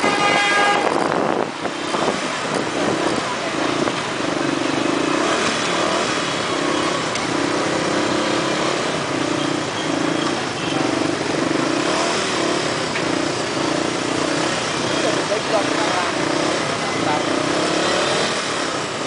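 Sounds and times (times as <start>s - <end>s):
wind and road noise: 0.0s - 19.0s
motorcycle engine revving: 1.0s - 19.0s.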